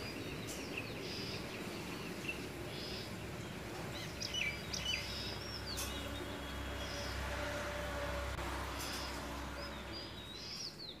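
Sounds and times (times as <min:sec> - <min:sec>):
small birds chirping: 0:00.0 - 0:07.4, 0:08.7 - 0:11.0
outdoor background hum: 0:00.0 - 0:11.0.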